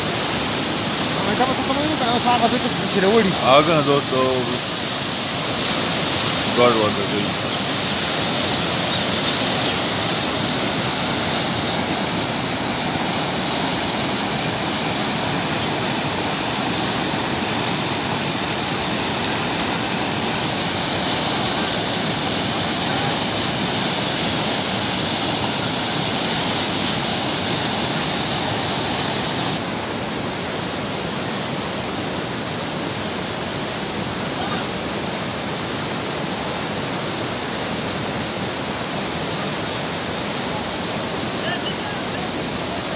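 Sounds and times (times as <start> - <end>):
floodwater rushing: 0.0 - 42.9.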